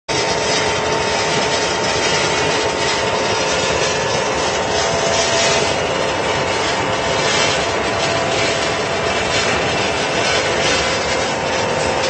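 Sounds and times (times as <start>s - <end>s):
machinery running loudly: 0.1s - 12.0s.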